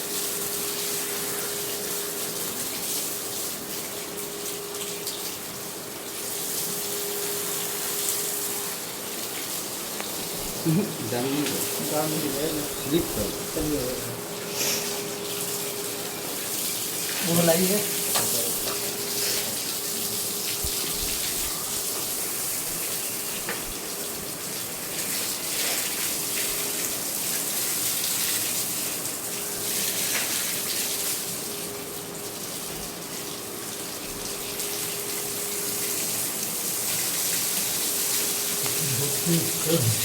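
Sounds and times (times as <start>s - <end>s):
water running and splashing: 0.0s - 40.0s.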